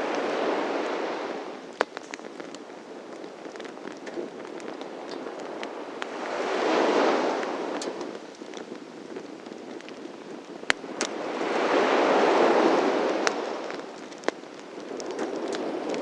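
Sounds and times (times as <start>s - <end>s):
sea waves washing: 0.0s - 16.0s
wood fire crackling: 0.0s - 16.0s.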